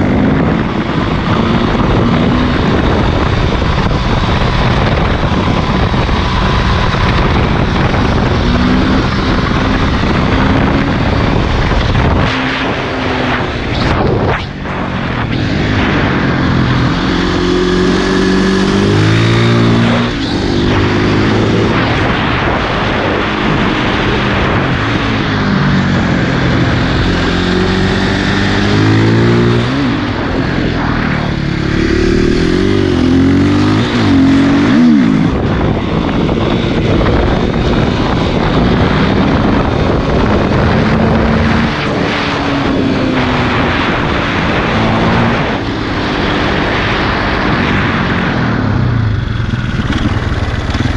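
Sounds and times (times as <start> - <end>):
motorcycle engine revving: 0.0 - 50.9
wind noise: 0.0 - 50.9.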